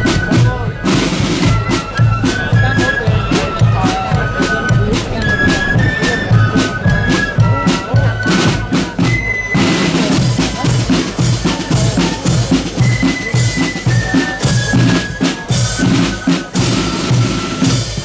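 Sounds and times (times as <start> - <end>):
high held melody: 0.0 - 18.0
snare and bass drums: 0.0 - 18.0.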